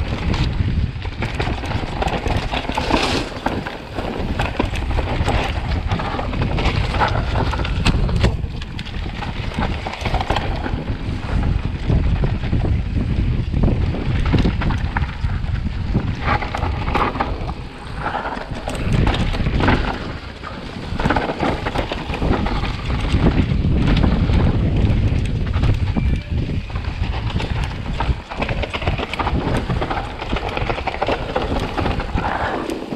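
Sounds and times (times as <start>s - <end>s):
bike knocking and clattering: 0.0s - 32.9s
tyres on dirt: 0.0s - 32.9s
wind buffeting microphone: 0.0s - 32.9s.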